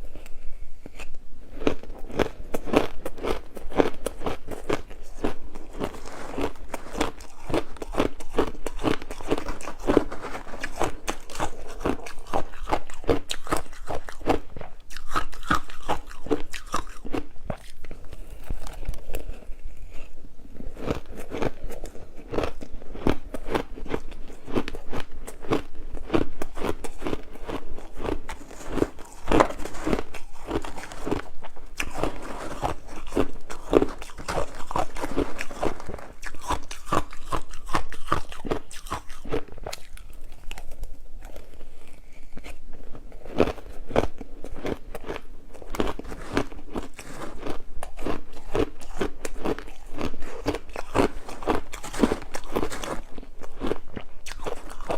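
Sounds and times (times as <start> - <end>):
ice being bitten and chewed: 0.0 - 54.9.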